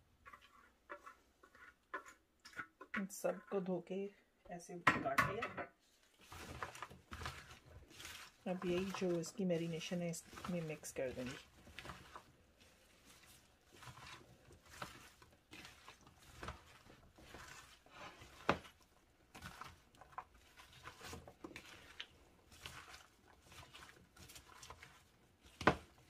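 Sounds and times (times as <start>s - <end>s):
vegetables rustling in a bowl: 0.0s - 3.9s, 5.8s - 26.0s.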